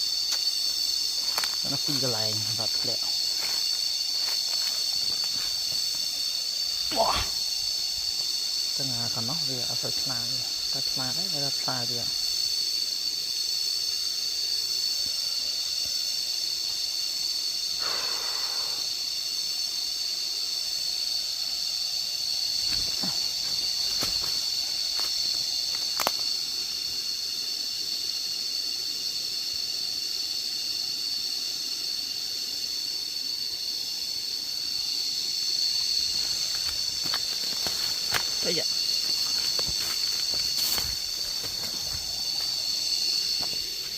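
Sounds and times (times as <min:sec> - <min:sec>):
cicadas droning: 0:00.0 - 0:43.9.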